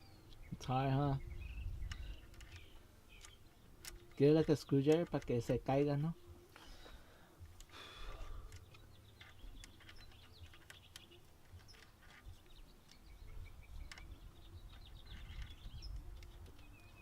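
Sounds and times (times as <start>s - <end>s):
faint bird chirps: 0.0s - 4.8s, 6.1s - 17.0s.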